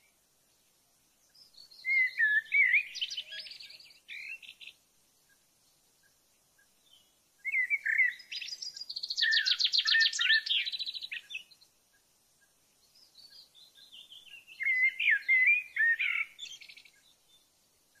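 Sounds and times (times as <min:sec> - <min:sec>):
songbird singing with trills: 0:01.2 - 0:18.0.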